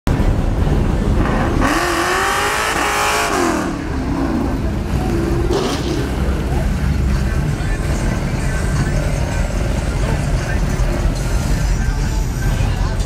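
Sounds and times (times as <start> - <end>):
car engine revving: 0.1 - 13.0
low traffic rumble: 0.1 - 13.0.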